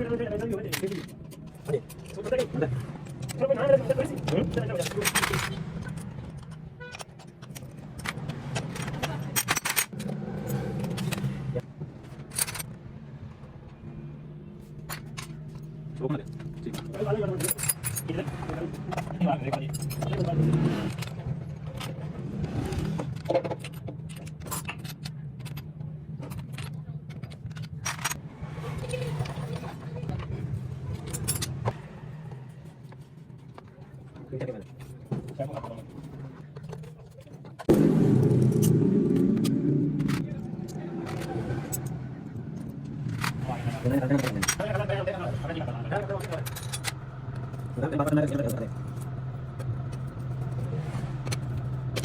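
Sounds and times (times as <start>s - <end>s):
metal tools clinking and scraping: 0.0s - 12.8s, 14.6s - 28.2s, 28.8s - 37.7s, 39.4s - 52.0s.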